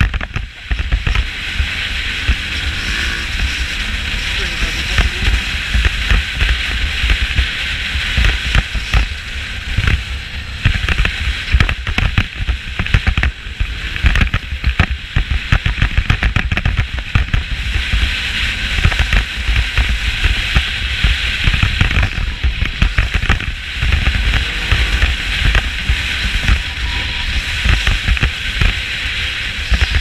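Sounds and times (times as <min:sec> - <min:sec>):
road rumble: 0:00.0 - 0:30.0
wind: 0:00.0 - 0:30.0.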